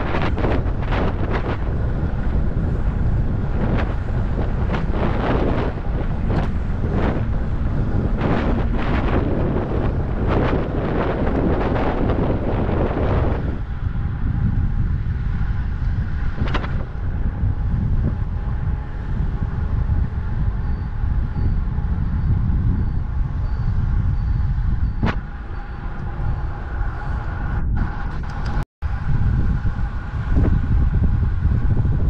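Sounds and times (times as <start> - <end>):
road traffic noise: 0.0 - 32.0
wind buffeting microphone: 0.0 - 32.0.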